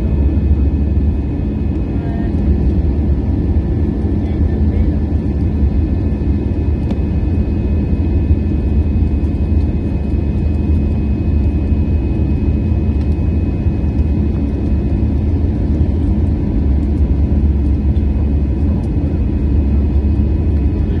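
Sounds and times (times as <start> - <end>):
aircraft cabin rumble: 0.0 - 21.0.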